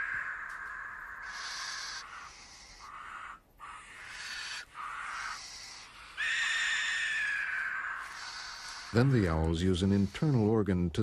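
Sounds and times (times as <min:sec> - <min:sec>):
owl chicks hissing: 0:00.0 - 0:10.4.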